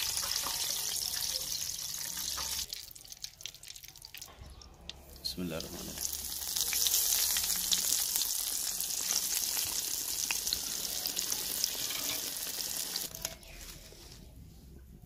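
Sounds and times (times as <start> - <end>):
chicken deep-frying in oil: 0.0 - 13.6.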